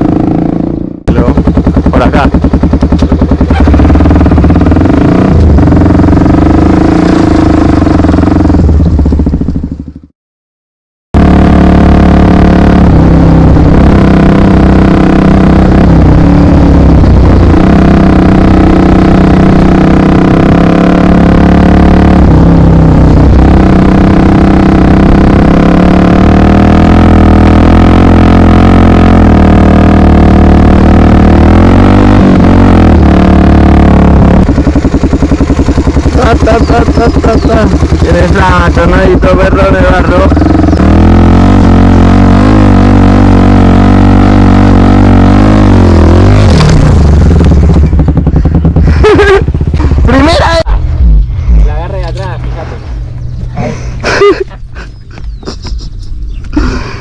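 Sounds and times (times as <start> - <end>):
motorcycle engine running: 0.0 - 10.1, 11.2 - 57.0.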